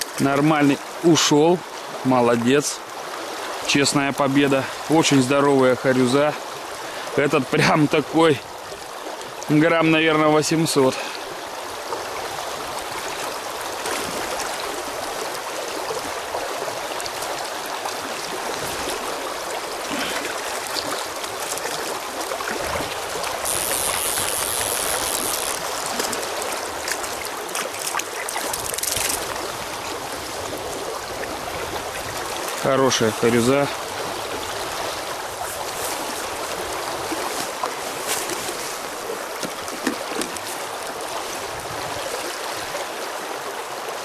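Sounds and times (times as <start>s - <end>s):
river flowing over shallows: 0.0s - 44.0s.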